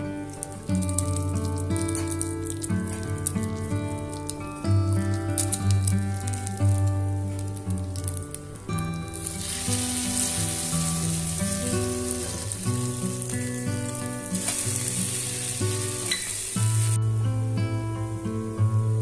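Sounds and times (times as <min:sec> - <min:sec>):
bread frying in a hot pan: 0:00.0 - 0:17.1.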